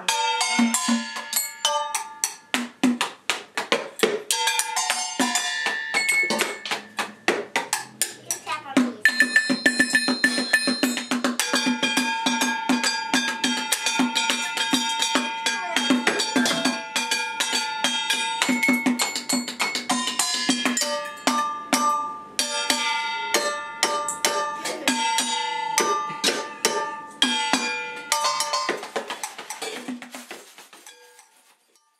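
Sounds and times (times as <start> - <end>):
metal bowls ringing when struck: 0.0 - 2.4, 4.3 - 28.8
dull tapping beat: 0.5 - 21.9, 24.8 - 31.0.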